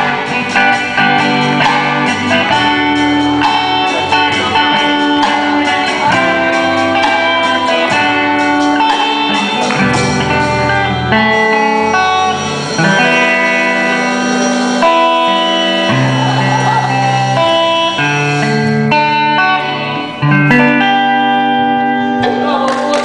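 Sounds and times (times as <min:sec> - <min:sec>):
instrumental guitar music: 0:00.0 - 0:23.0.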